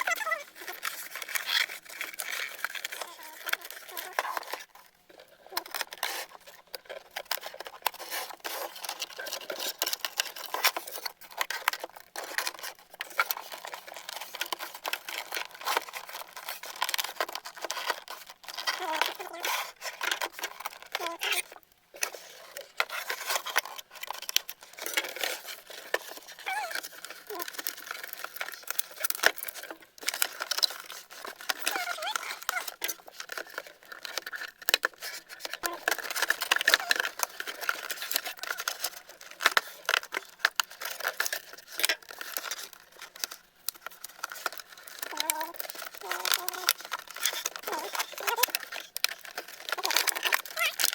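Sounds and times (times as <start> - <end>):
plastic toy pieces clicking: 0.0 - 4.7, 5.5 - 50.9
packaging rustling: 0.0 - 50.9.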